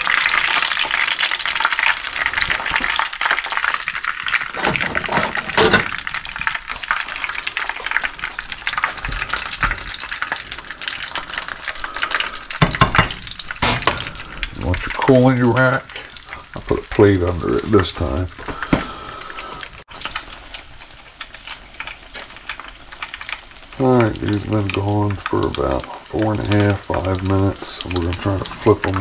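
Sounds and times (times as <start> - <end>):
fish cake sizzling in hot oil: 0.0 - 29.0.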